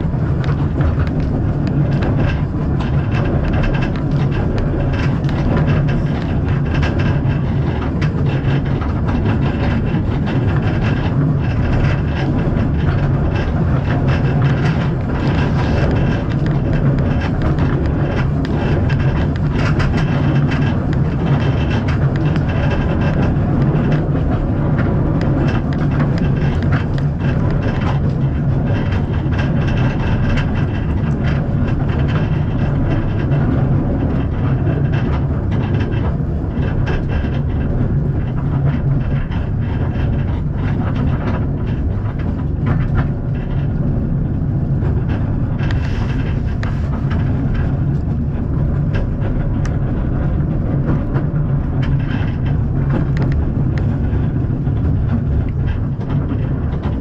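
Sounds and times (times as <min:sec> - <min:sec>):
small clicks and rattles: 0:00.0 - 0:57.0
train wheels rumbling on rails: 0:00.0 - 0:57.0.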